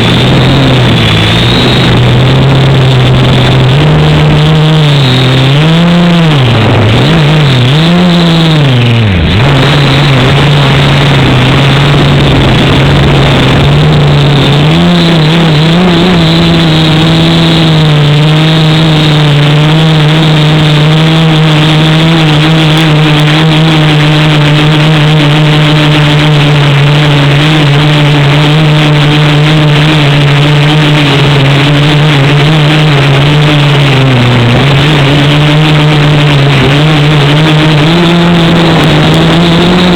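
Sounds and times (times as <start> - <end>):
drone motors and propellers buzzing: 0.0 - 39.9.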